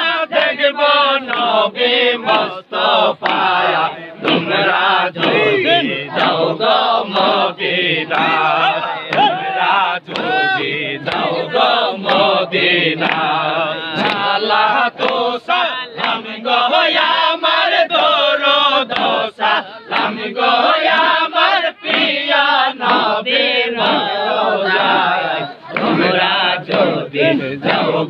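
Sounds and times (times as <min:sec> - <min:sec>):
crowd of men chanting: 0:00.0 - 0:28.0.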